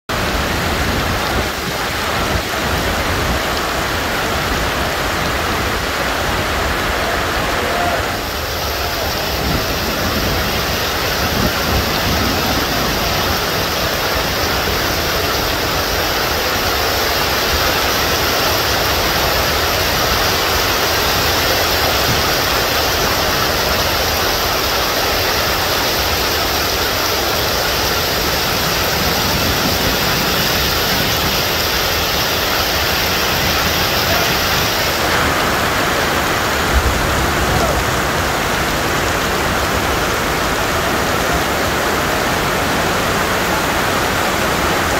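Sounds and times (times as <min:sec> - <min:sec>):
heavy rain pouring: 0:00.1 - 0:44.9.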